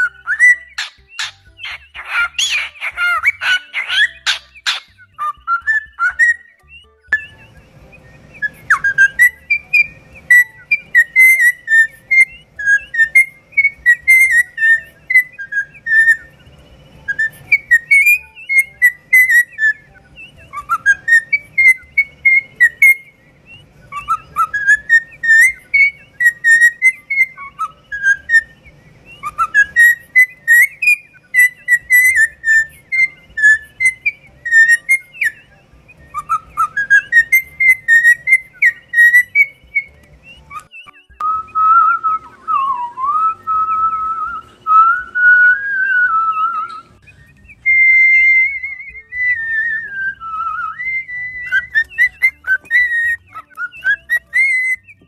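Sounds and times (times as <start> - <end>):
cockatiel whistling: 0.0 - 55.0.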